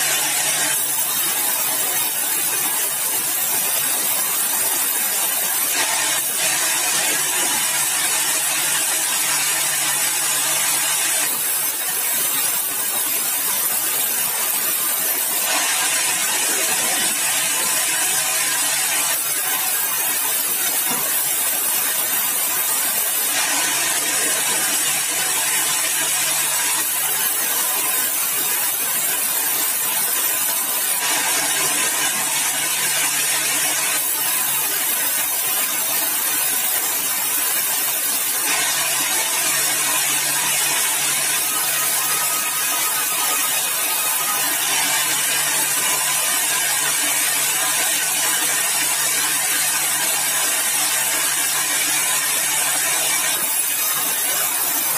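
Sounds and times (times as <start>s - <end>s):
sawmill sawing timber: 0.0s - 49.6s.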